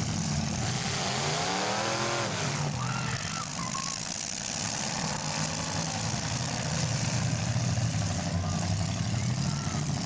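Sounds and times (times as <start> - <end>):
car engines rumbling: 0.0 - 10.0.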